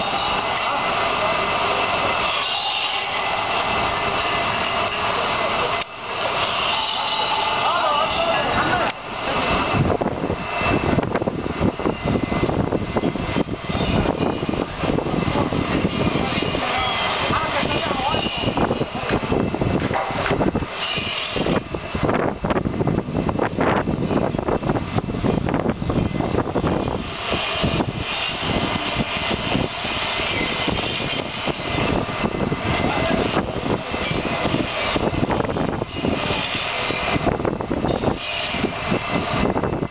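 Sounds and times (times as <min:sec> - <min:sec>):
industrial machinery roar: 0:00.0 - 0:39.9.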